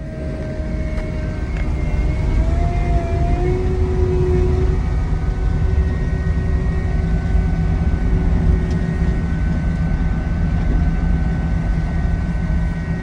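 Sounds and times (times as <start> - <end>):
diesel engine rumbling: 0.0 - 13.0
faint steady whine: 0.0 - 13.0.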